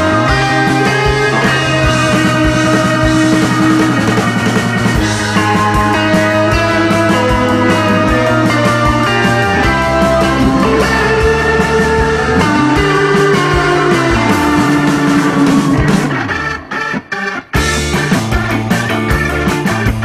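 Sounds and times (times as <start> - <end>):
instrumental background music: 0.0 - 20.0.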